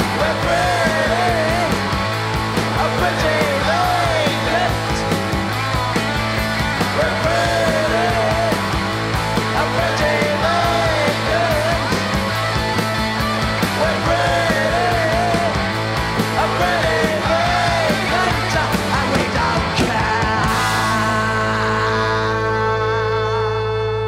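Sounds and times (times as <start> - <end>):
electric and acoustic guitars: 0.0 - 24.0.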